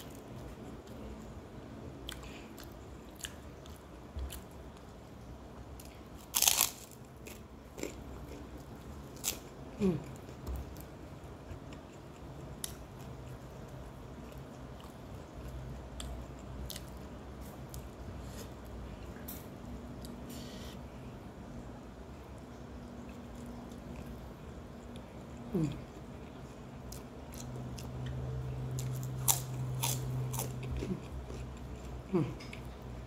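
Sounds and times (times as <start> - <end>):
person chewing food: 0.0 - 20.6, 22.3 - 33.0.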